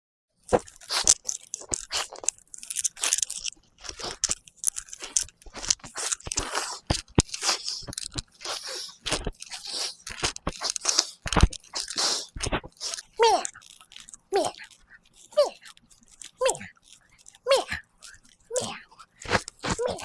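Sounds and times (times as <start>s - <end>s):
crunching and crackling: 0.4s - 20.0s.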